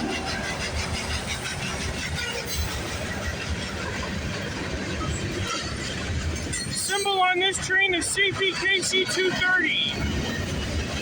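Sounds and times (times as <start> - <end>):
repeated clicking of train: 0.0 - 11.0
train wheels rumbling on rails: 0.0 - 11.0.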